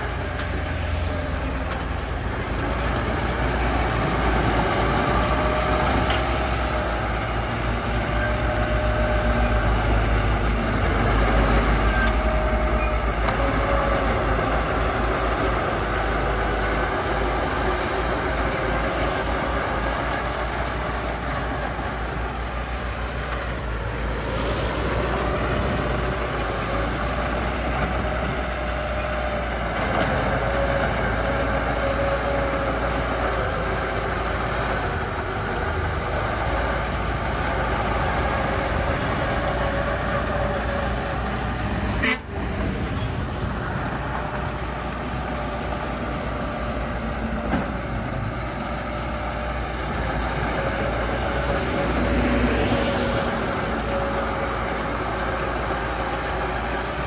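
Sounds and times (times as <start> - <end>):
heavy diesel engine rumbling: 0.0 - 57.0.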